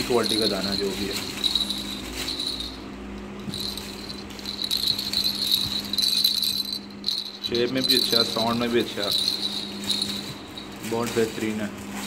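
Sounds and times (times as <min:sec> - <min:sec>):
plastic baby rattle shaken: 0:00.0 - 0:02.8, 0:03.4 - 0:11.4.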